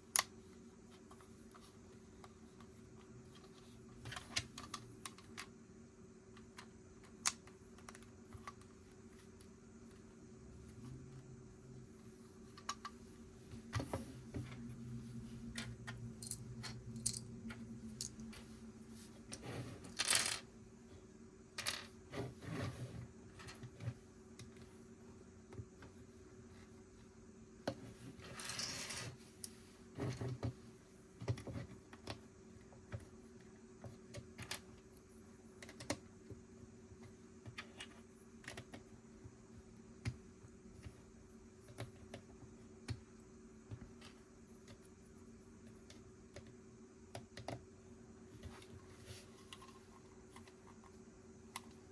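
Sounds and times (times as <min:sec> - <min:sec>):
faint low hum: 0:00.0 - 0:51.9.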